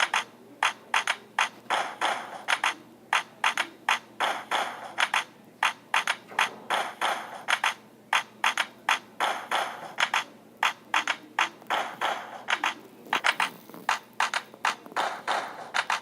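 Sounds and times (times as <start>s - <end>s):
percussion beat: 1.4s - 16.0s.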